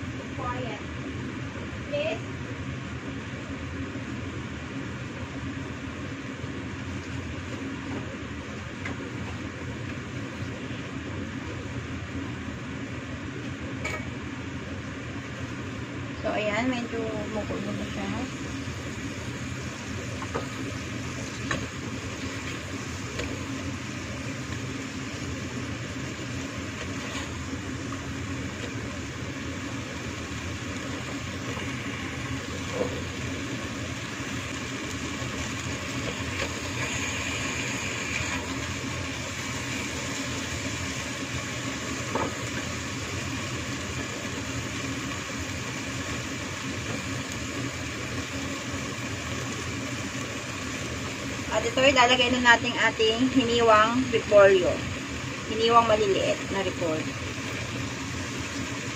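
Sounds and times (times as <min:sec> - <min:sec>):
beef bubbling and sizzling: 0:00.0 - 0:58.9.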